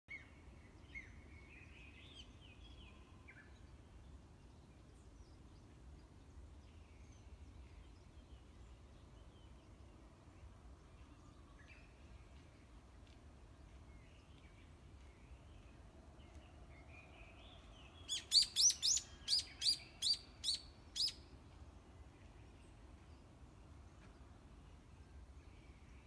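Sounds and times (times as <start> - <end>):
songbird chirping: 0.1 - 26.0.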